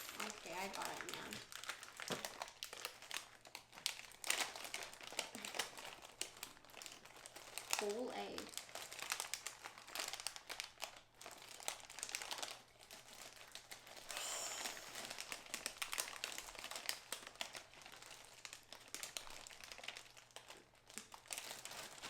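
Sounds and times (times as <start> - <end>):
plastic bags crinkling and rustling: 0.0 - 22.0.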